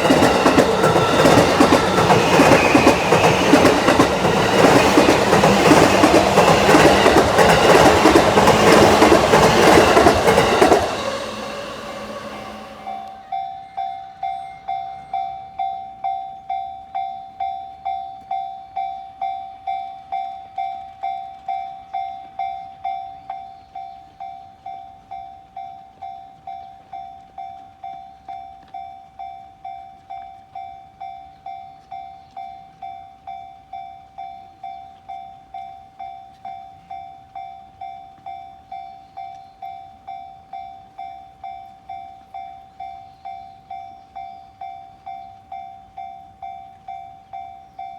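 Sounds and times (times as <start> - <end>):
level crossing warning bell: 0.0 - 47.9.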